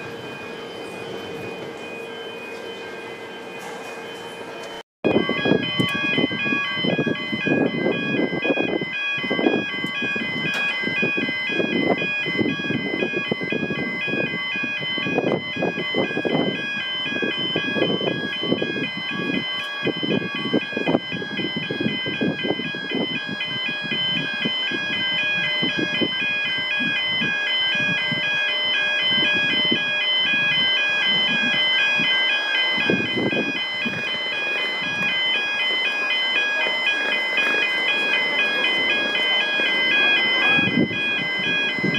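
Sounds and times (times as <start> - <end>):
two-tone crossing alarm: 0.0 - 41.9.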